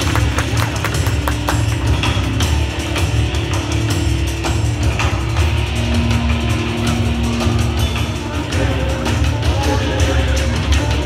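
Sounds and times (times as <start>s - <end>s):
guitar: 0.0s - 11.0s
heavy drum beat: 0.0s - 11.0s
rock music over loudspeakers: 0.0s - 11.0s.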